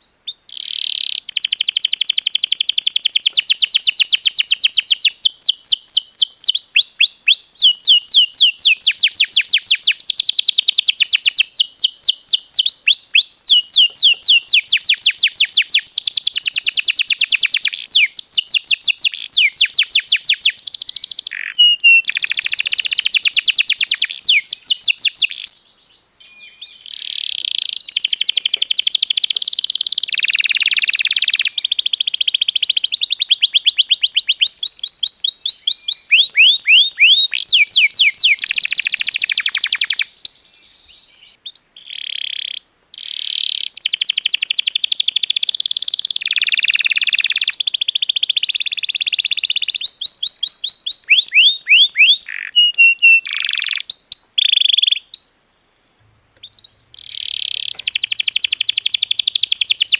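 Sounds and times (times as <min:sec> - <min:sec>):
canary singing trills: 0:00.0 - 0:55.4, 0:56.4 - 0:59.9.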